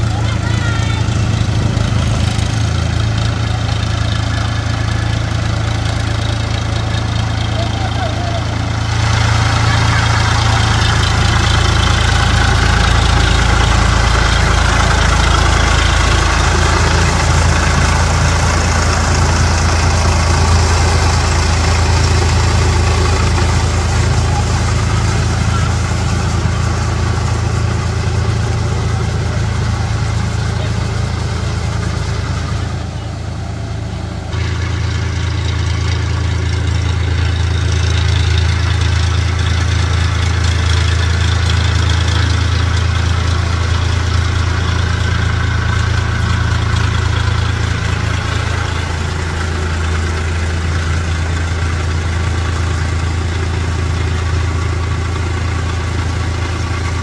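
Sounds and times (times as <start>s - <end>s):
tiller churning mud and water: 0.0s - 57.0s
tractor diesel engine running: 0.0s - 57.0s.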